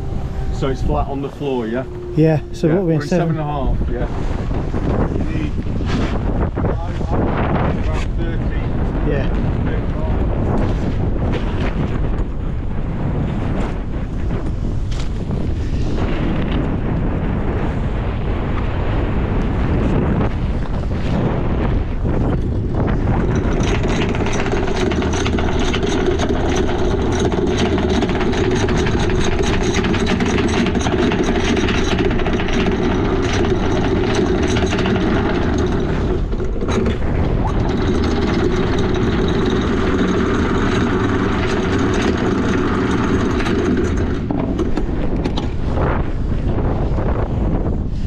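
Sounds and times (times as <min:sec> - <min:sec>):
anchor windlass motor droning: 0:00.0 - 0:48.0.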